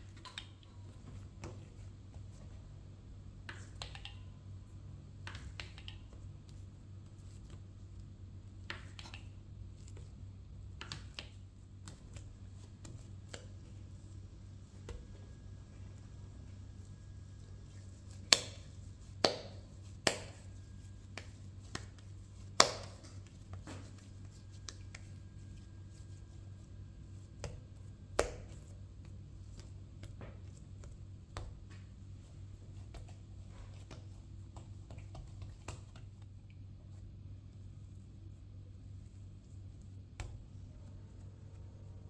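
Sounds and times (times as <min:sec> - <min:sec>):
low steady hum: 0:00.0 - 0:42.0
soft dough handling: 0:00.0 - 0:42.0.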